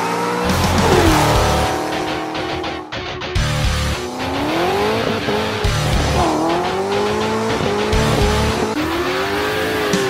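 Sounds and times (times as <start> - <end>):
car engine accelerating hard: 0.0 - 10.0
music with heavy beat: 0.4 - 10.0.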